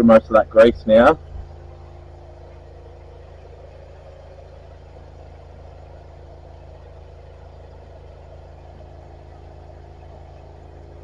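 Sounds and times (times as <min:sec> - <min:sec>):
engine and pump running: 0:00.0 - 0:11.0.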